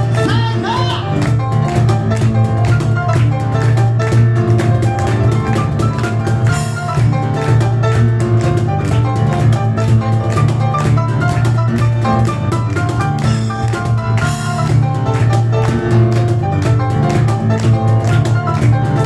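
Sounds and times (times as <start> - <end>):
cajon strikes: 0.0 - 19.0
fast piano runs: 1.2 - 19.0.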